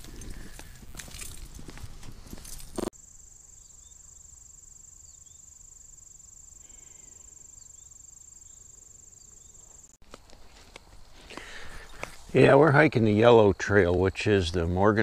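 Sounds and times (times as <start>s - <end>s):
insects trilling: 2.4s - 15.0s.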